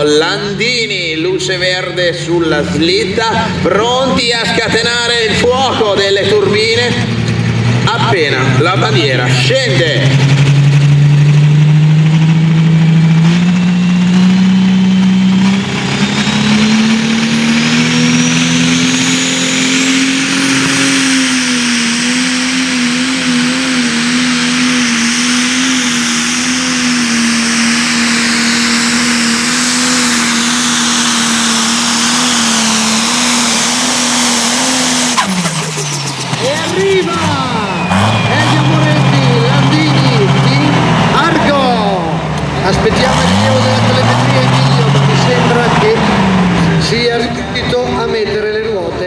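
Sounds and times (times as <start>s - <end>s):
diesel engine at full throttle: 0.0s - 49.0s
turbocharger whine: 0.0s - 49.0s.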